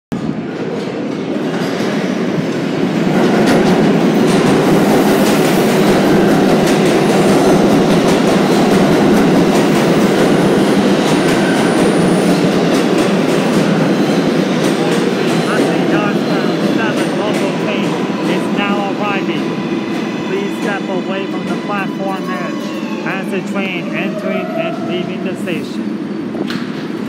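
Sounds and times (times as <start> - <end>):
subway train wheels rumbling: 0.1 - 27.0.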